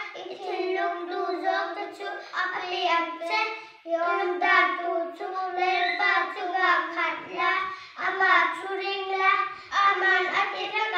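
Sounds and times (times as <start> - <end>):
boys singing in unison: 0.0 - 7.4, 8.0 - 10.9.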